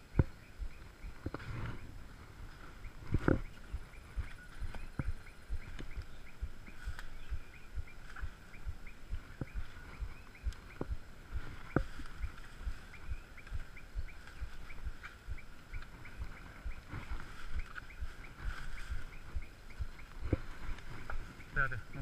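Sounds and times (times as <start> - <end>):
footsteps through brush: 0.0 - 22.0
small animals chirping: 0.0 - 22.0.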